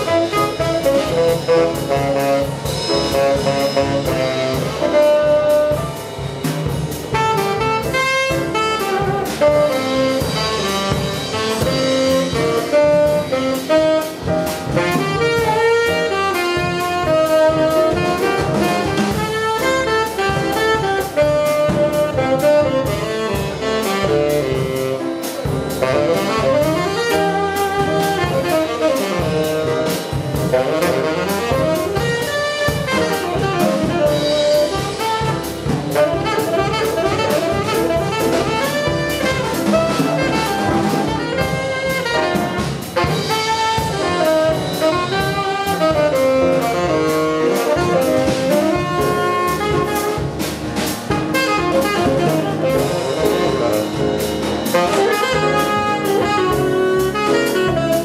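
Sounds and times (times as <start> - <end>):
tenor saxophone: 0.0 - 6.2, 7.0 - 58.0
double bass: 0.0 - 58.0
drum kit cymbals: 0.0 - 58.0
piano: 0.0 - 58.0.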